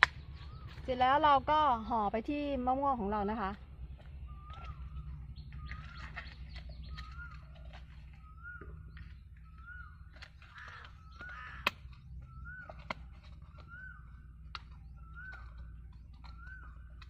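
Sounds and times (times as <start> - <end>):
bird call rising and falling: 0.0 - 1.4, 3.3 - 17.0.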